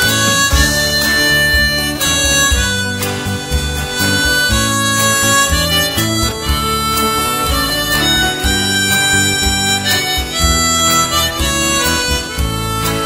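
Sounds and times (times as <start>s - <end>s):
country band instrumental: 0.0s - 13.0s.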